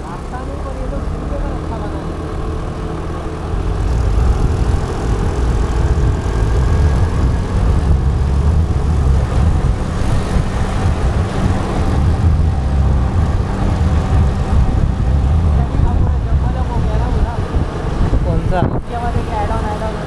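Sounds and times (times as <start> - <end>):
scooter riding in traffic: 0.0 - 20.0.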